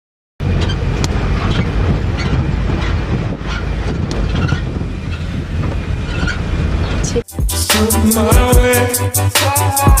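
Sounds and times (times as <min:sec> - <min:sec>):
engine and road rumble: 0:00.4 - 0:09.2.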